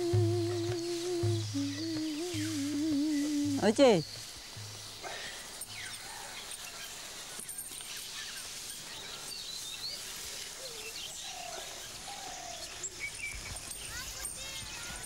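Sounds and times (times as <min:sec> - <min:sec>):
faint bird chirps and calls: 0:00.0 - 0:15.0
steady background hiss: 0:00.0 - 0:15.0.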